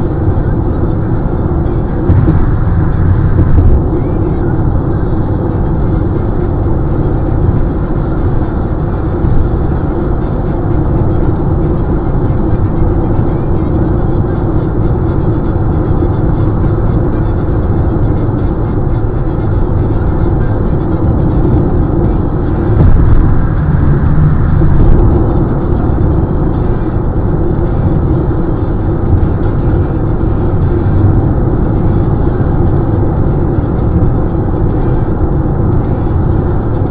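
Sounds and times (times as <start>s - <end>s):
car road noise at highway speed: 0.0s - 36.9s.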